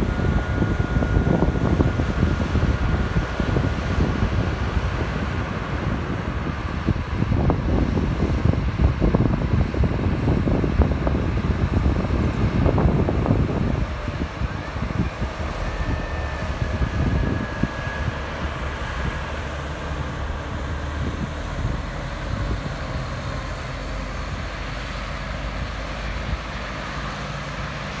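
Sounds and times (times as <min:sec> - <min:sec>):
tractor diesel engine running: 0:00.0 - 0:28.0
wind buffeting microphone: 0:00.0 - 0:28.0.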